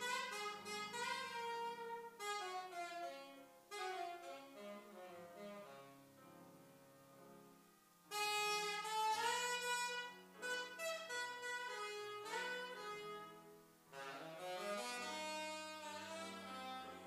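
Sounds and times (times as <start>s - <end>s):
saxophone melody: 0.0s - 6.5s, 8.0s - 17.0s
grand piano accompaniment: 0.0s - 17.0s.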